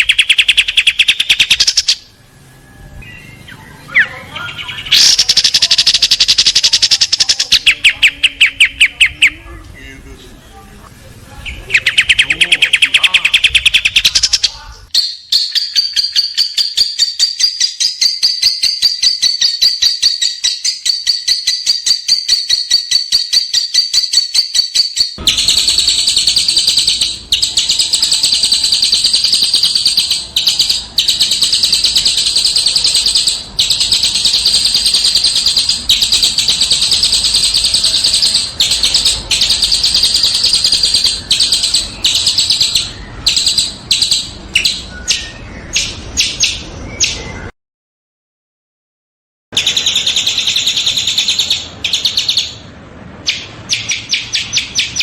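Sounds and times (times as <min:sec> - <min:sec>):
songbirds trilling: 0:00.0 - 0:10.5, 0:11.4 - 0:47.5, 0:49.6 - 0:55.0.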